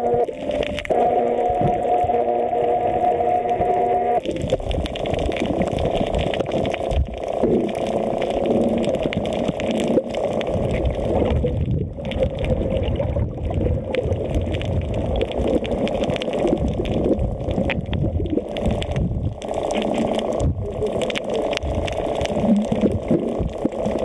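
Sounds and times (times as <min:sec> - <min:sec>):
small clicks and crackles: 0:00.0 - 0:24.0
water sloshing and bubbling: 0:00.0 - 0:24.0.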